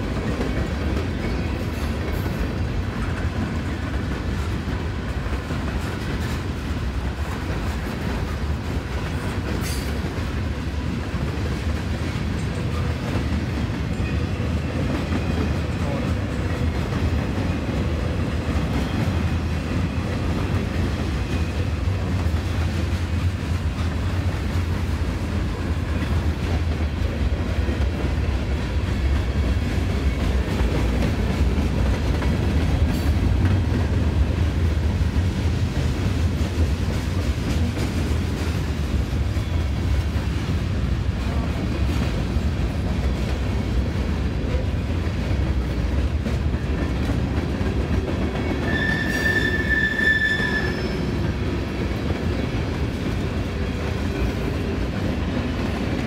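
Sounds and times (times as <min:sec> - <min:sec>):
freight train wheels rolling: 0:00.0 - 0:56.0.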